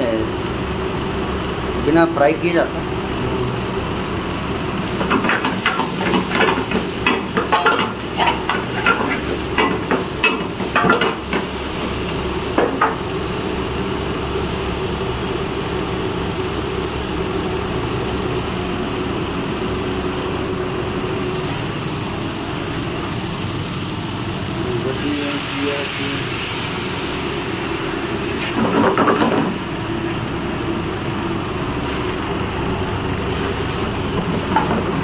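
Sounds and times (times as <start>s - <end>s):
chicken sizzling: 2.9s - 35.0s.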